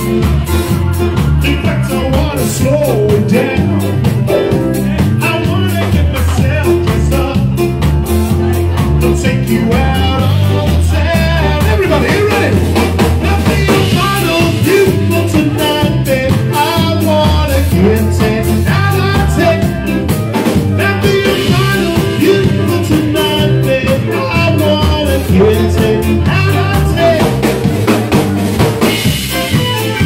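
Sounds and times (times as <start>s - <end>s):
person singing: 0.0s - 28.4s
drum kit with snare rimshots: 0.0s - 30.0s
steady bass line: 0.0s - 30.0s.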